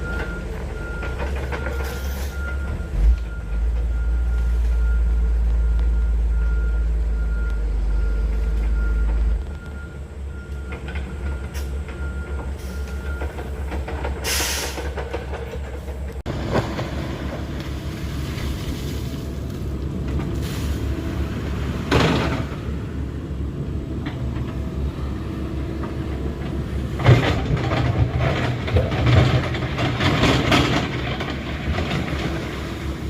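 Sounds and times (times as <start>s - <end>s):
diesel digger rumbling: 0.0s - 33.0s.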